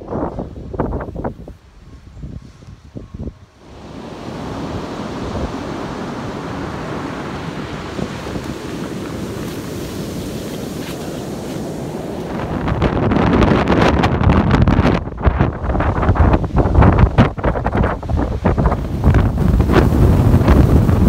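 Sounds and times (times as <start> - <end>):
wind on microphone: 0.0 - 21.0
surf breaking on beach: 3.6 - 21.0.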